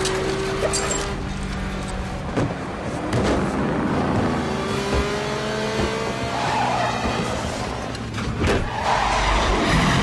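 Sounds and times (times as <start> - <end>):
car engines revving: 0.0 - 10.0
tyres skidding: 0.0 - 10.0.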